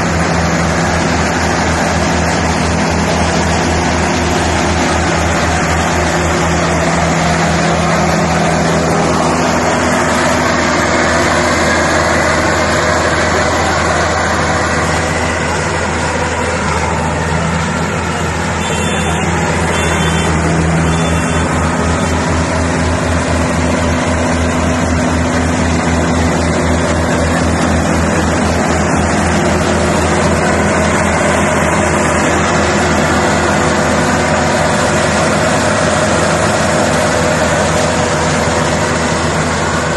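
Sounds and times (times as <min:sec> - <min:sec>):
combine harvester working: 0:00.0 - 0:39.9.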